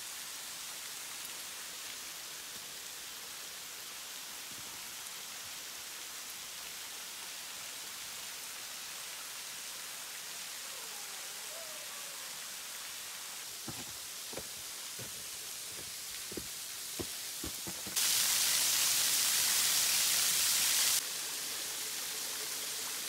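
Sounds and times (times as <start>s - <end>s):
creek running over rocks: 0.0s - 23.0s.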